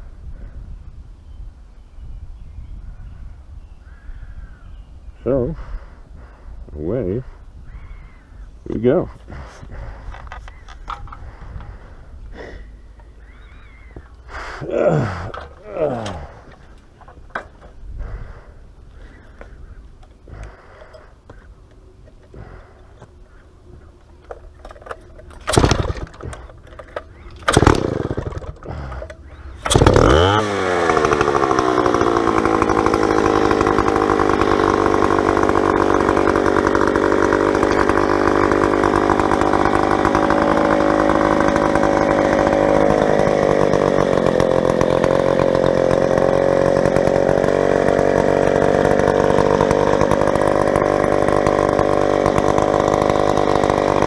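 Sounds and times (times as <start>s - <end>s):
chainsaw running: 8.9s - 54.0s.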